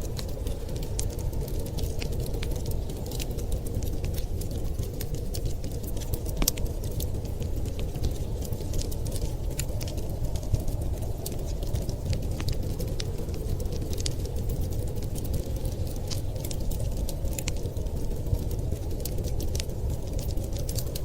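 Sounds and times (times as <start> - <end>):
steady low rumble: 0.0 - 21.0
wood fire crackling and popping: 0.0 - 21.0.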